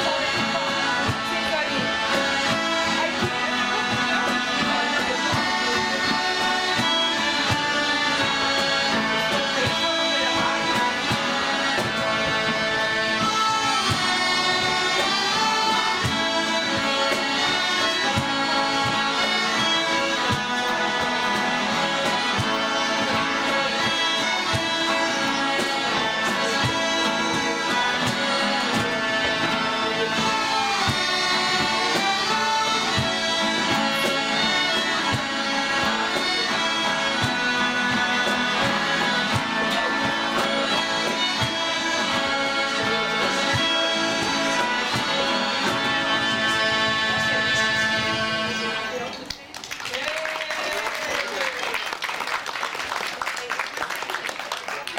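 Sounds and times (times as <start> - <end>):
smallpipes playing a tune: 0.0 - 49.1
accordion: 0.0 - 49.6, 50.7 - 54.9.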